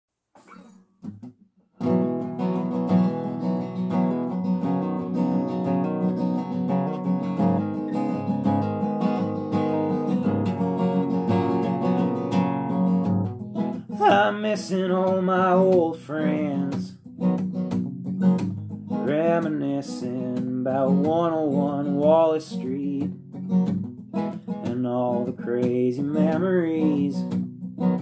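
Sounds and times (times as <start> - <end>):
acoustic guitar chords: 0.4 - 28.0.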